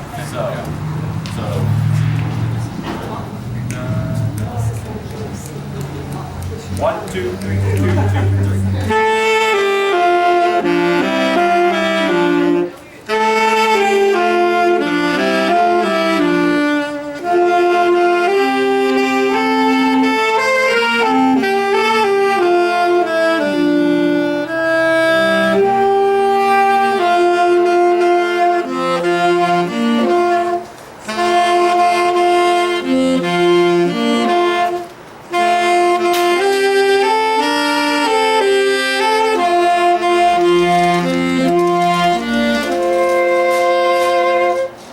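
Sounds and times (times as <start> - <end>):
wind ensemble playing in harmony: 3.3 - 44.9.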